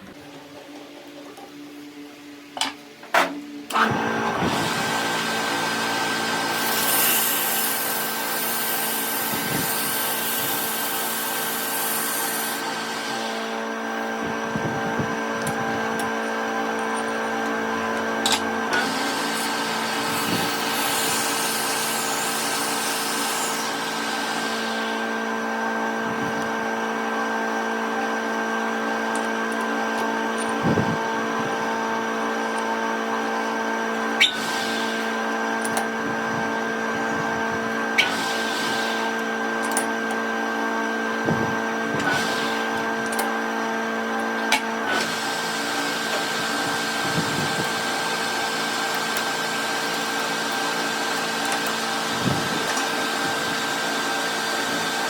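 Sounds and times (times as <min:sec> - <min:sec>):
machine motor humming: 0:03.6 - 0:55.0.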